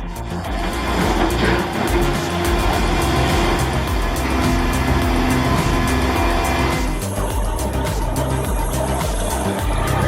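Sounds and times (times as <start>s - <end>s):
music with pulsing bass: 0.0s - 10.0s.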